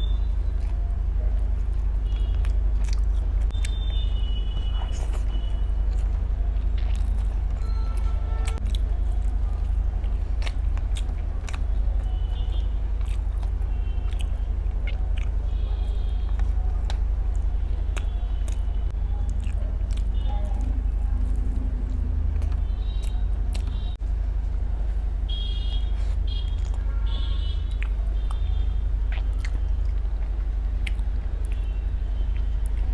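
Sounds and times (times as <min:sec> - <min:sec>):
chewing and biting: 0:00.0 - 0:24.0, 0:25.7 - 0:32.9
steady low hum: 0:00.0 - 0:32.9.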